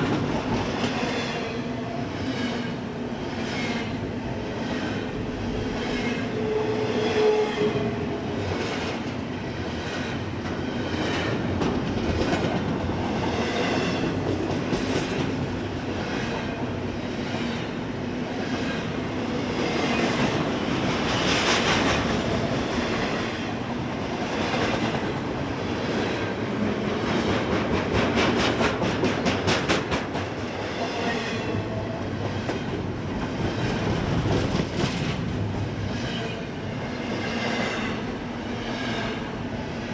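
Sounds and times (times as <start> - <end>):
clickety-clack over rail joints: 0.0 - 6.4, 7.1 - 39.9
steel wheels rumbling on rail: 0.0 - 39.9.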